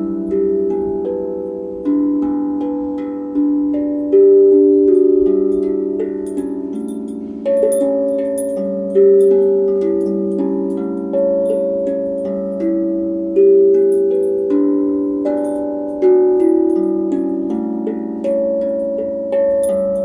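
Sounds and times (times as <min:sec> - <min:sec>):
pan drum notes ringing: 0:00.0 - 0:20.0.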